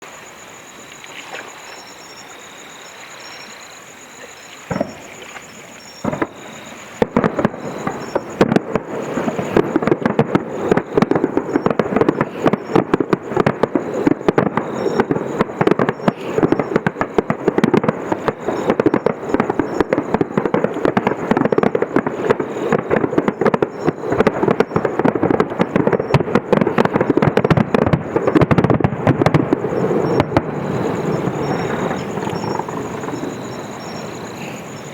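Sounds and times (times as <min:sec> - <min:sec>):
fireworks bangs: 0:00.0 - 0:34.9
fireworks barrage of bursts and crackles: 0:00.0 - 0:34.9.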